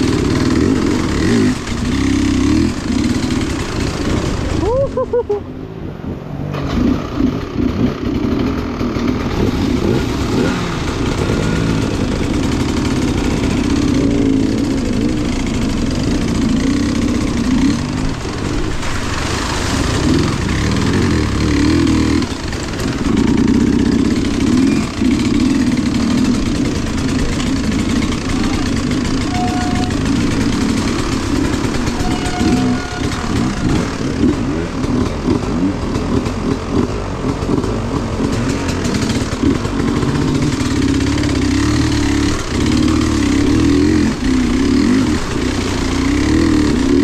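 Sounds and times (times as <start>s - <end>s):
off-road vehicle engine revving: 0.0s - 5.3s, 6.1s - 47.0s.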